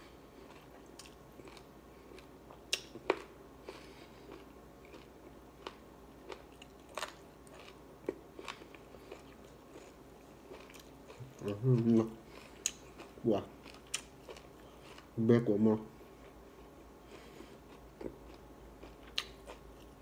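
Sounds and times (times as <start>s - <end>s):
person chewing food: 0.0s - 15.2s, 15.9s - 20.0s.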